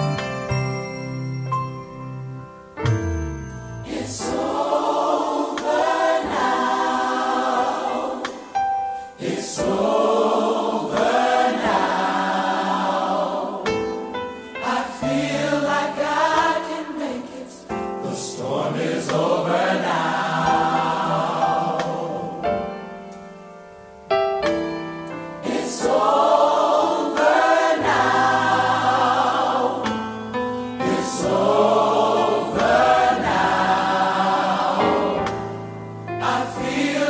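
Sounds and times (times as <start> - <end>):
choir singing: 3.7 - 22.9, 25.4 - 37.0.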